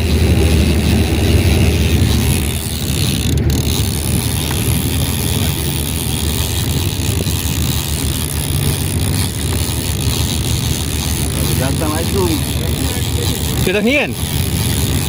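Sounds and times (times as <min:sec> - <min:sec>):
boat engine droning: 0:00.0 - 0:15.0
wind and water hiss: 0:00.0 - 0:15.0.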